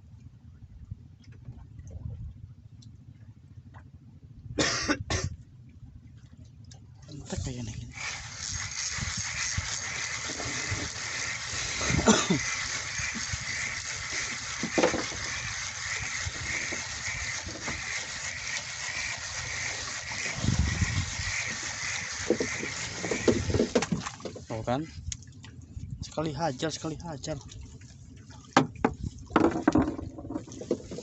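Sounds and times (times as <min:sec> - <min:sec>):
water noise: 0:00.0 - 0:04.0, 0:05.1 - 0:31.0
wind: 0:00.0 - 0:31.0.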